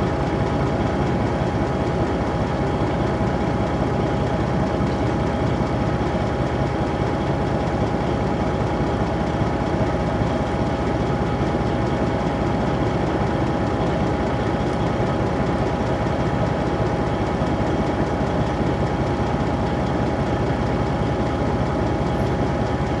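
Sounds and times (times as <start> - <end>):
engine whining and pulsing: 0.0 - 23.0.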